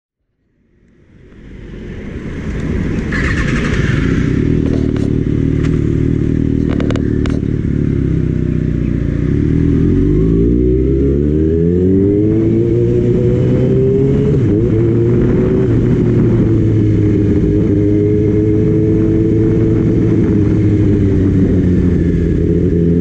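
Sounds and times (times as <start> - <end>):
motorcycle engine running: 2.3 - 13.4, 14.4 - 23.0.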